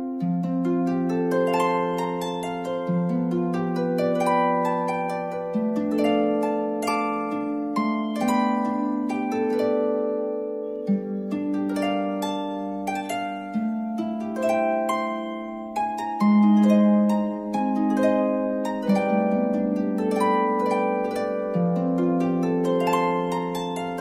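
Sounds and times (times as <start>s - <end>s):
gentle harp-like melody: 0.0s - 24.0s.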